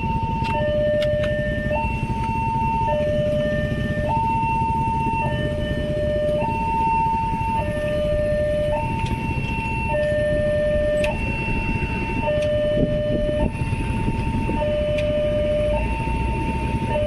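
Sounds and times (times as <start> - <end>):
low rumble of road traffic: 0.0 - 17.0
two-tone crossing warning alarm: 0.0 - 17.0.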